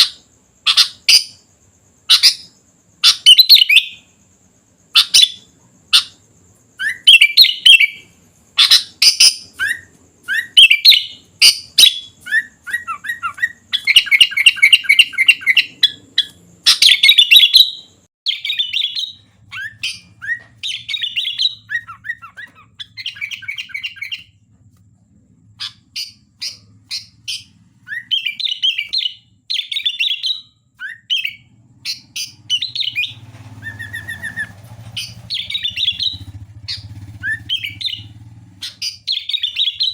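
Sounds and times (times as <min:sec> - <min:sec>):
bulbul singing chirping phrases: 0:00.0 - 0:24.4, 0:25.2 - 0:39.9.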